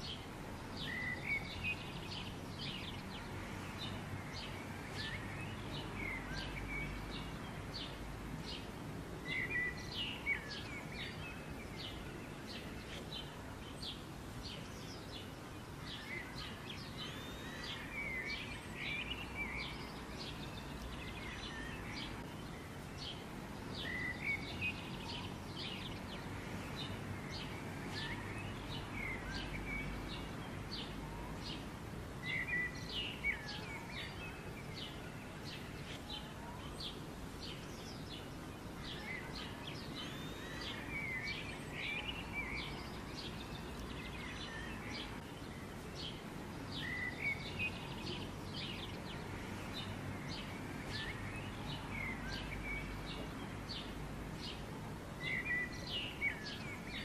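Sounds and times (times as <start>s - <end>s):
outdoor background noise: 0.0s - 57.0s
small birds chirping: 0.0s - 57.0s.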